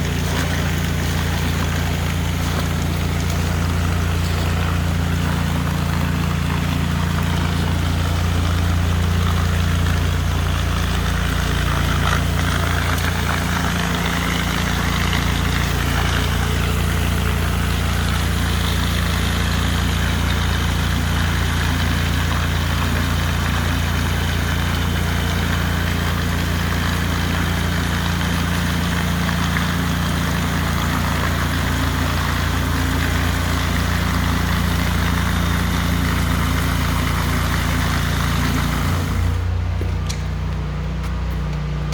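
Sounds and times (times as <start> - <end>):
pressure washer running: 0.0 - 41.9.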